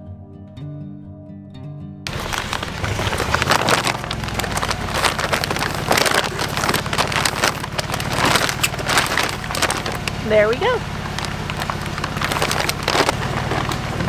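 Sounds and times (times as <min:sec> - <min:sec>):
sack material crackling: 0:02.1 - 0:14.0.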